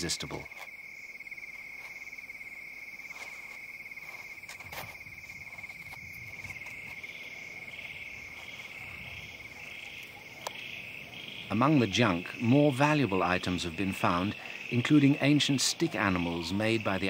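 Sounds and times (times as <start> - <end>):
cricket pulsing higher chirp: 0.0 - 17.0
cricket steady high trill: 0.0 - 17.0.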